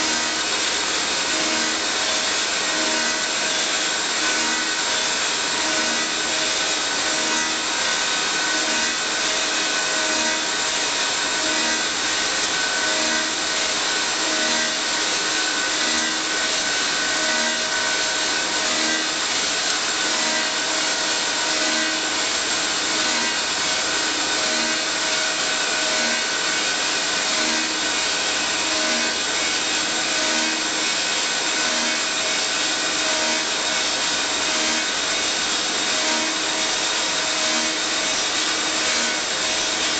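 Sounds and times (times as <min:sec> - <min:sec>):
lathe running: 0:00.0 - 0:39.9.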